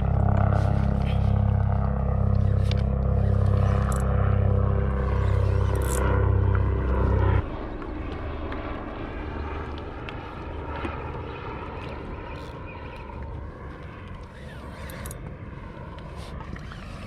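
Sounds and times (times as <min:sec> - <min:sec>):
low pulsing motor drone: 0:00.0 - 0:17.0.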